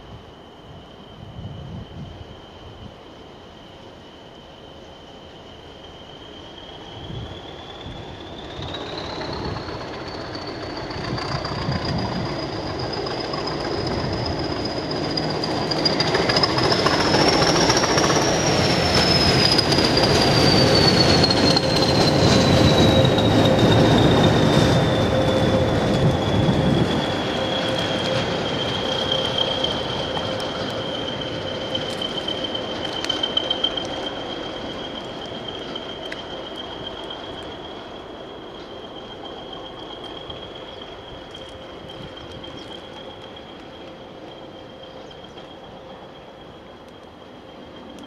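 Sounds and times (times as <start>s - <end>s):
diesel locomotive passing: 0.0s - 48.0s
high whistle: 3.7s - 48.0s.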